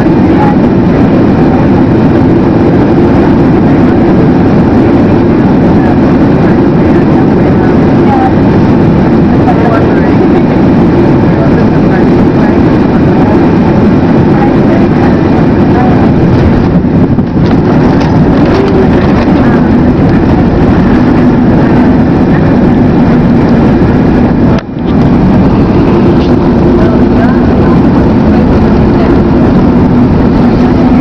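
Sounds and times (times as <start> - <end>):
aircraft engines roaring in cabin: 0.0 - 31.0
rushing air: 0.0 - 31.0.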